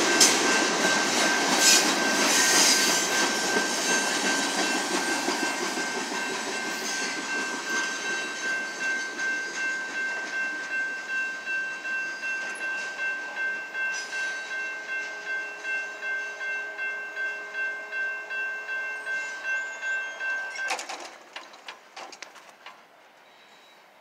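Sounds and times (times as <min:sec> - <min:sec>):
railroad crossing bell ringing: 0:00.0 - 0:21.8.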